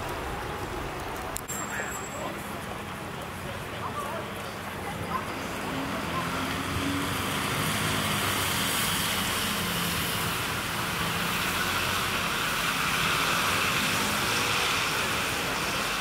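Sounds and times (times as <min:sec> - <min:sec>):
tyres hissing on wet road: 0:00.0 - 0:16.0.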